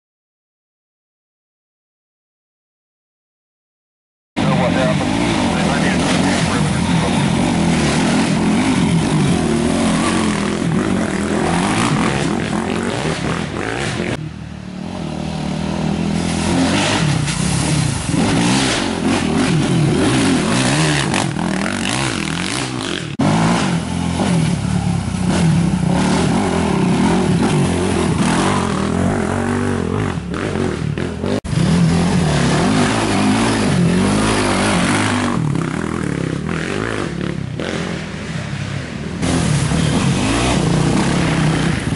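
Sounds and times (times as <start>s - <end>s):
quad engines revving: 4.4s - 41.9s.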